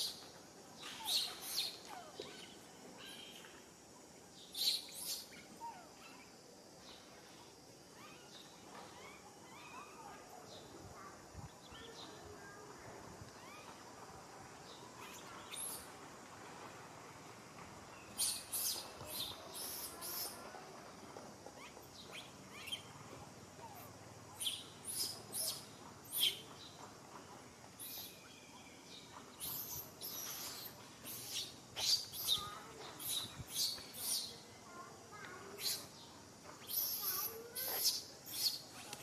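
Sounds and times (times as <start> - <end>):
faint background hiss: 0.0 - 39.0.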